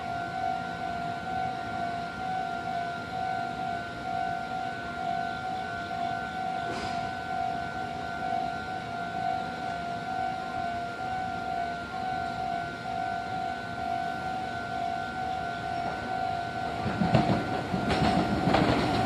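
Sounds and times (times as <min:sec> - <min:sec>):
level crossing alarm ringing: 0:00.0 - 0:19.0.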